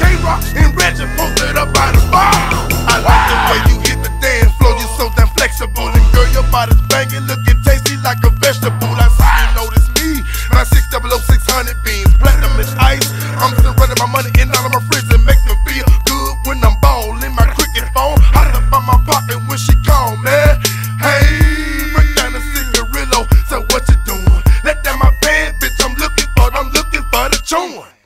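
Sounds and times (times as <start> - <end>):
deep bass notes: 0.0 - 27.4
rap track with hard drum beat: 0.0 - 27.9.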